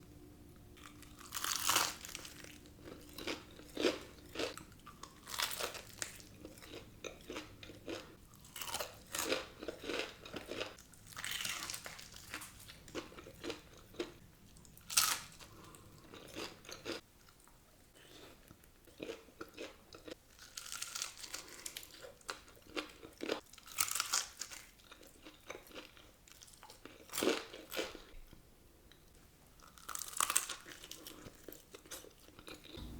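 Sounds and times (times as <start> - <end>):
crunchy fried chicken being chewed: 0.8 - 32.9.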